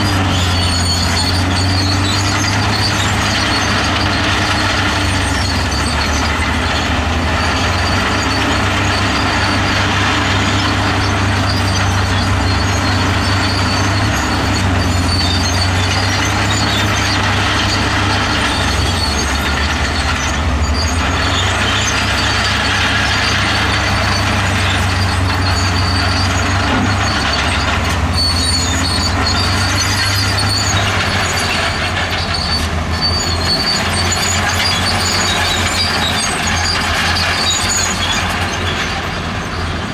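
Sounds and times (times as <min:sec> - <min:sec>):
bulldozer diesel engine running: 0:00.0 - 0:39.9
high-pitched track squeaks: 0:00.0 - 0:39.9
steel tracks clanking: 0:00.0 - 0:39.9.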